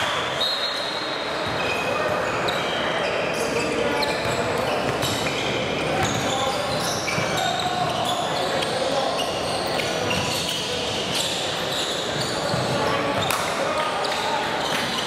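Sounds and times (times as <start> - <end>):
sneakers squeaking: 0.0 - 15.0.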